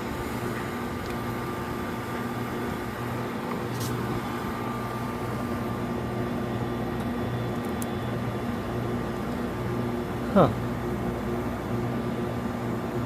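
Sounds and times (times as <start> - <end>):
compressor and fan hum: 0.0 - 13.0.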